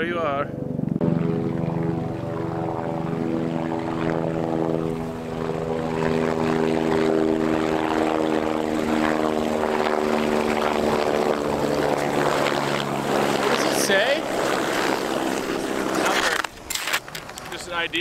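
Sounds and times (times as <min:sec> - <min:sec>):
helicopter rotor drone: 0:00.0 - 0:18.0.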